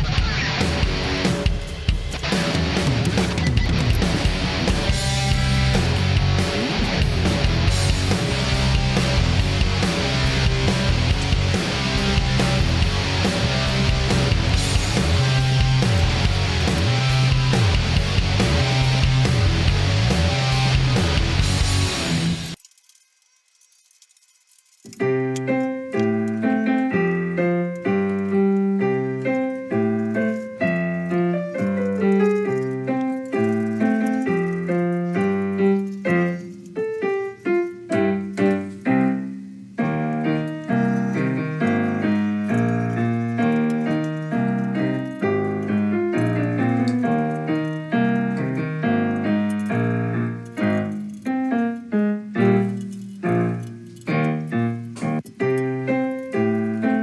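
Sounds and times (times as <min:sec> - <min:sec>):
piano background music: 0:00.0 - 0:22.6, 0:24.9 - 0:57.0.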